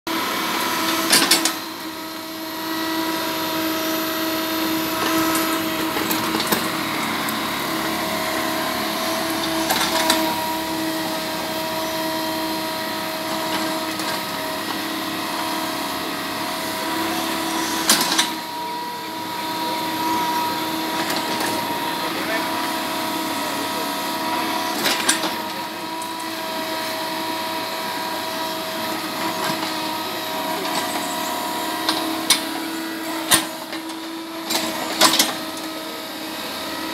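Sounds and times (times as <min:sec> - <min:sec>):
excavator engine whining: 0:00.1 - 0:36.9.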